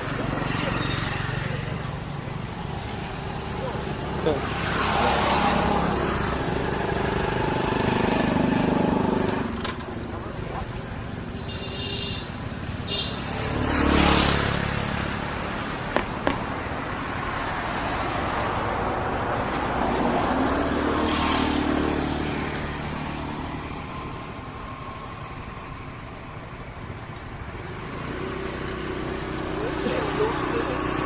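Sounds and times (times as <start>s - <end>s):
vehicles passing by: 0.0s - 31.0s.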